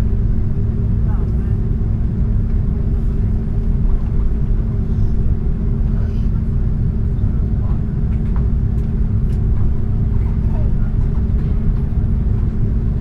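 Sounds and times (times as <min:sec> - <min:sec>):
constant cabin hum: 0:00.0 - 0:13.0
jet engines rumbling at taxi power: 0:00.0 - 0:13.0.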